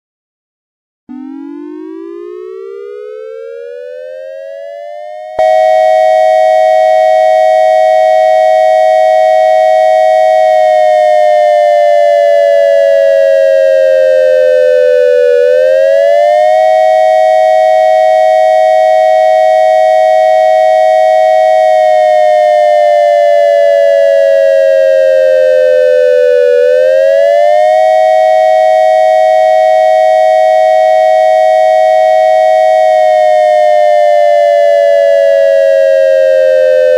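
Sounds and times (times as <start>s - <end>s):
electronic siren two-note wail: 1.1s - 36.9s.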